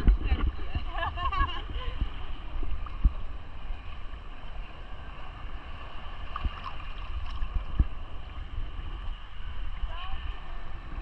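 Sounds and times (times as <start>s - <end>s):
sea water sloshing: 0.0s - 10.8s
wind rumbling on microphone: 0.0s - 11.0s.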